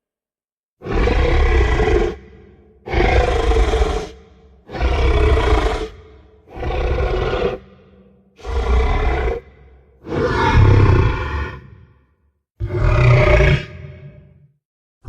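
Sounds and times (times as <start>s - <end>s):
dinosaur growling roars: 0.8s - 12.0s, 12.6s - 14.4s.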